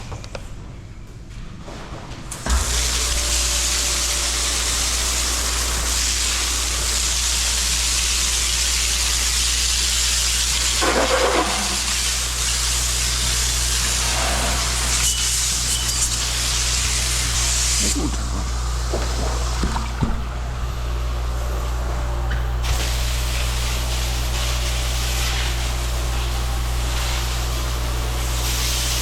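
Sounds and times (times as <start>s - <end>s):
high-pressure water spray hissing: 2.4s - 19.7s, 22.6s - 29.0s.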